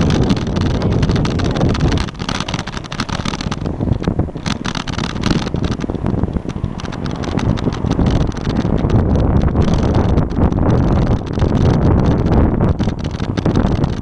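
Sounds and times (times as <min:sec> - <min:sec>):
bicycle rattling clicks: 0:00.0 - 0:14.0
wind buffeting microphone: 0:00.0 - 0:14.0.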